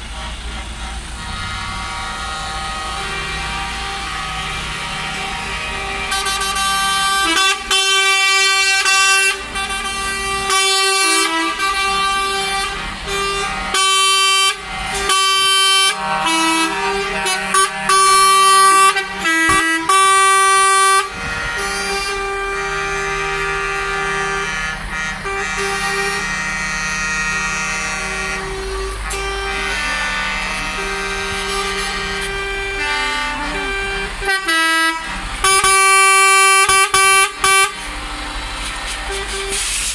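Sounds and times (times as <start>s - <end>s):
truck air horns blasting: 0.0s - 39.9s
truck engines running: 0.0s - 39.9s.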